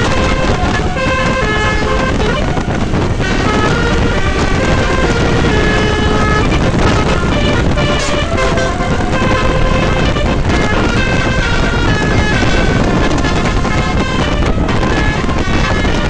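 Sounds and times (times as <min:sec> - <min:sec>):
engine and road rumble: 0:00.0 - 0:16.0
multi-tone air horn melody: 0:00.0 - 0:16.0.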